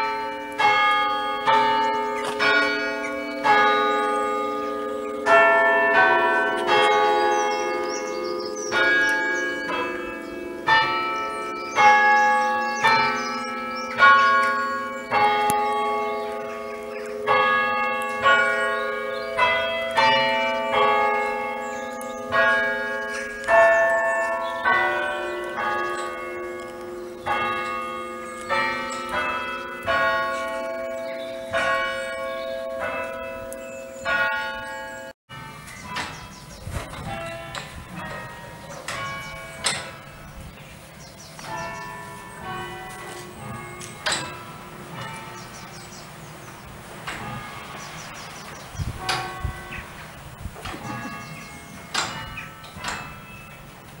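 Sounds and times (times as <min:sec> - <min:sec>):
church bells struck singly: 0:00.0 - 0:54.0.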